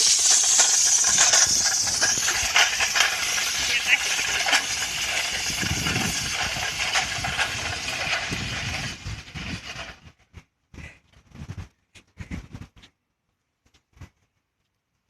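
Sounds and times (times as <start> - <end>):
sled scraping over pavement: 0.0 - 12.8.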